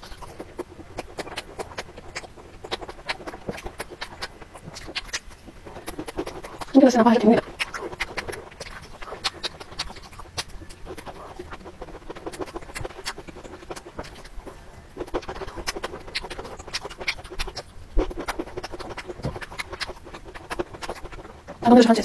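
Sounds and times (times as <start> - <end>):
chewing crisp food: 0.0 - 22.0.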